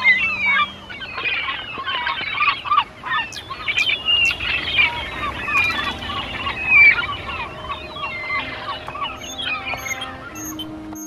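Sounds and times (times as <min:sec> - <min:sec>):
songbirds chorus: 0:00.0 - 0:11.0
very high thin notes: 0:00.0 - 0:11.0.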